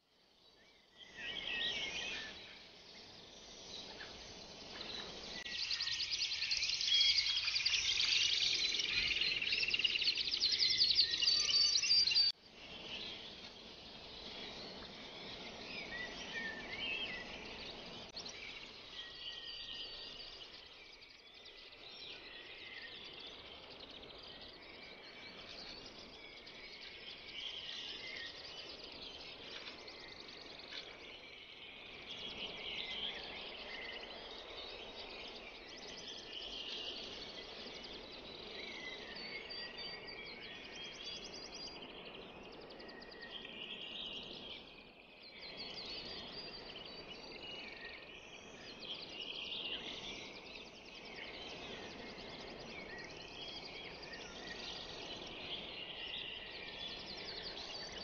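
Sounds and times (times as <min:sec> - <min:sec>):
birds chirping and twittering: 0:00.4 - 0:58.0.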